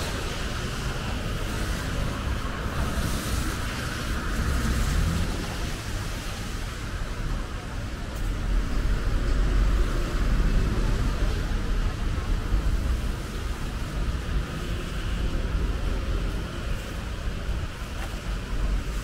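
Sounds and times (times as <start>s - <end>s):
rain: 0.0s - 19.0s
traffic on wet streets: 0.0s - 19.0s.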